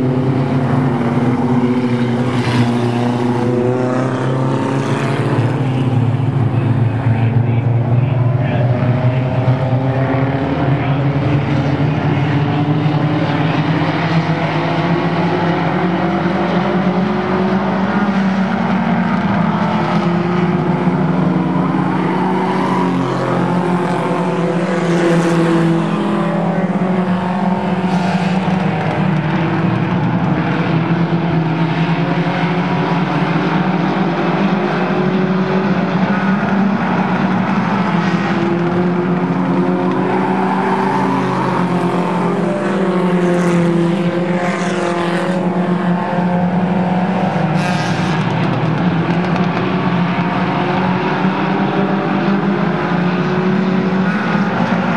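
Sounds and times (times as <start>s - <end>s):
race car engines running hard: 0.0s - 54.9s.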